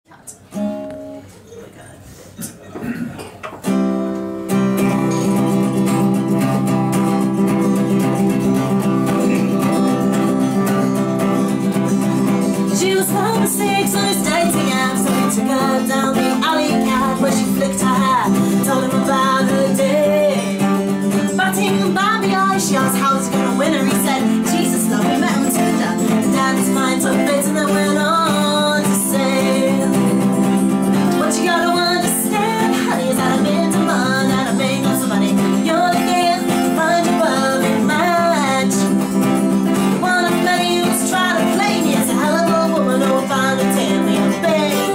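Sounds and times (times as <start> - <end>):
strummed acoustic guitar: 0.3 - 1.4, 2.4 - 44.9
woman singing: 7.7 - 44.9.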